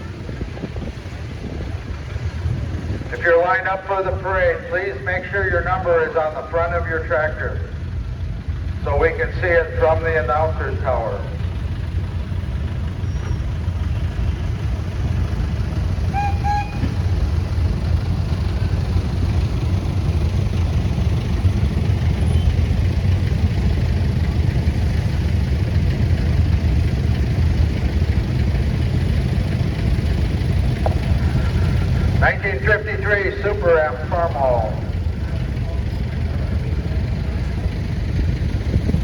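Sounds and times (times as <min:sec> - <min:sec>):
tractor engines rumbling: 0:00.0 - 0:39.0.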